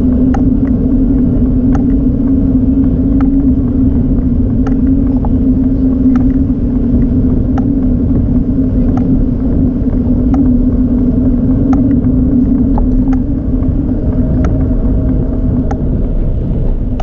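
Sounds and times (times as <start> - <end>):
steady low hum: 0.0 - 17.0
tyres rumbling over pavement: 0.0 - 17.0
wind buffeting: 0.0 - 17.0
light ticks: 0.1 - 15.9.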